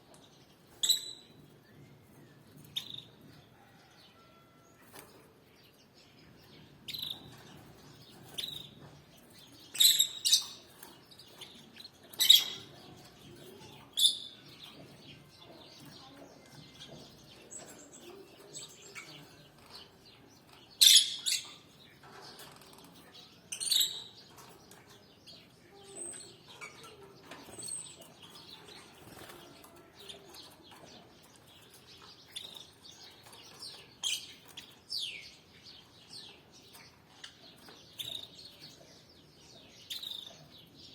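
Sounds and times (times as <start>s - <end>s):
canaries chirping: 0.0s - 40.9s.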